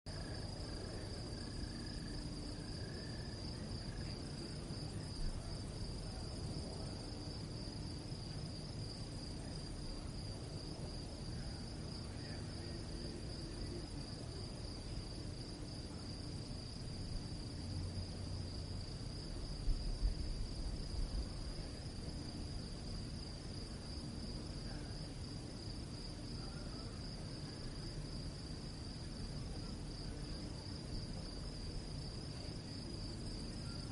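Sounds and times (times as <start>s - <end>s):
crickets chirring: 0.1s - 33.9s
low background hiss: 0.1s - 33.9s.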